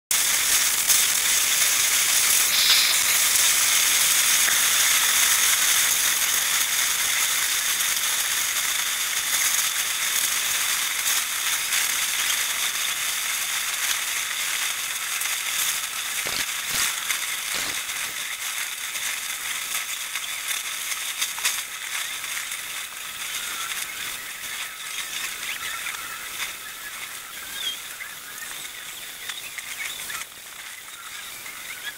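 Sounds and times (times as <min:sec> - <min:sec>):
rain falling: 0:00.1 - 0:31.9.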